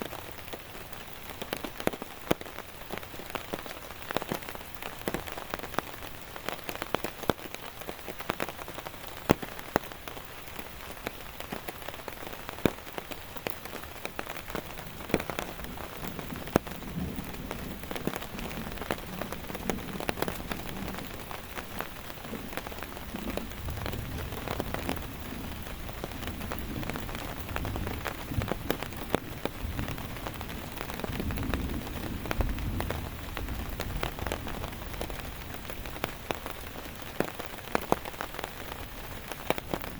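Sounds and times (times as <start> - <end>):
raindrops striking close: 0.0 - 39.9
steady rain: 0.0 - 39.9.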